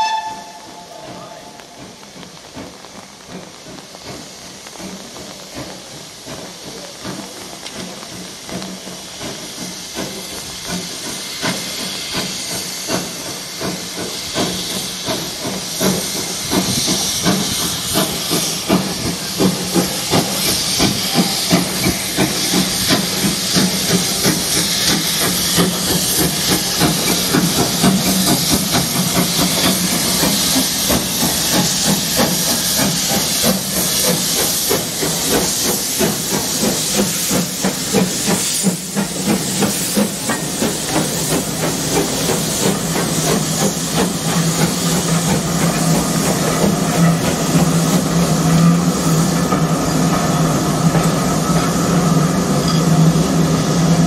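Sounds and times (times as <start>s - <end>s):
loud steam hiss: 0.0s - 54.0s
steam locomotive exhaust beats: 0.0s - 54.0s.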